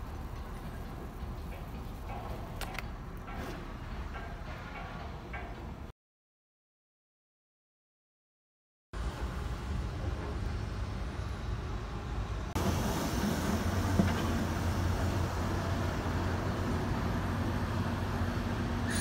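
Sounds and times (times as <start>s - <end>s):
street traffic rumble: 0.0s - 5.9s, 9.0s - 19.0s.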